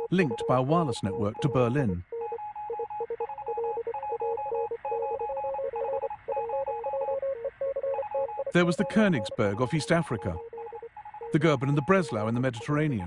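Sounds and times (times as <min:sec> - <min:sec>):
morse code beeping: 0:00.0 - 0:13.0.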